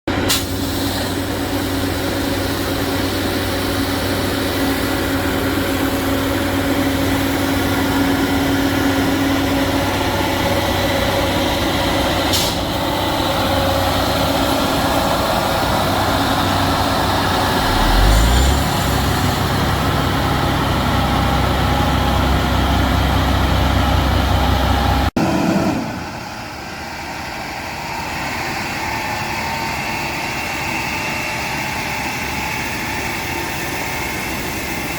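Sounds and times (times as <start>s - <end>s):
heavy diesel machinery running: 0.1s - 34.9s
quieter engine: 0.1s - 34.9s.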